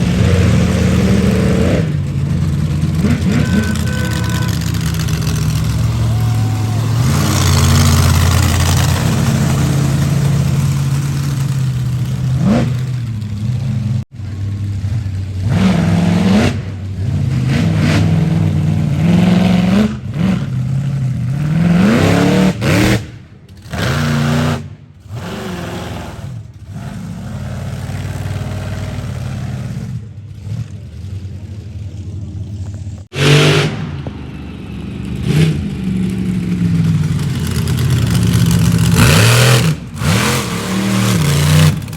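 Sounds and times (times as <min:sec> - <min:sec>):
monster truck engines revving: 0:00.0 - 0:41.9.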